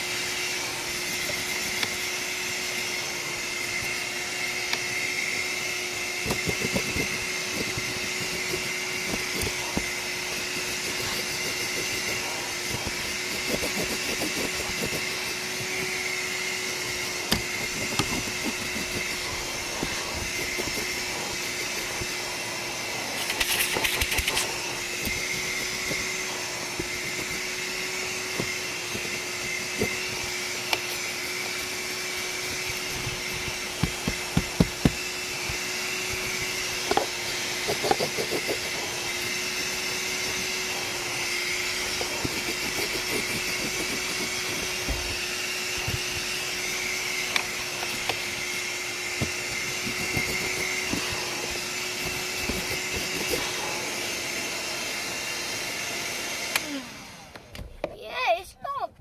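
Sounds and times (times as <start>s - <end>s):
handheld vacuum cleaner running: 0.0s - 57.8s.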